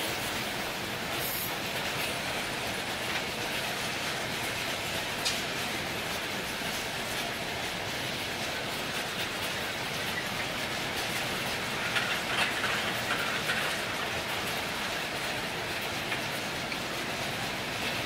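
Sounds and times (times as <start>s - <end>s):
steel wheels running on rails: 0.0s - 18.0s.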